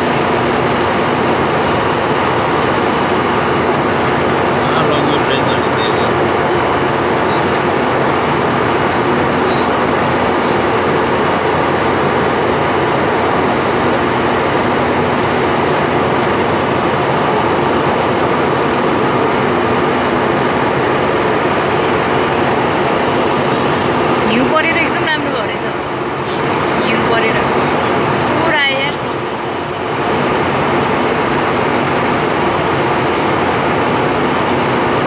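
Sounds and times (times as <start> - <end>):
aircraft cabin engine drone: 0.0 - 35.0
faint steady hum: 0.0 - 35.0.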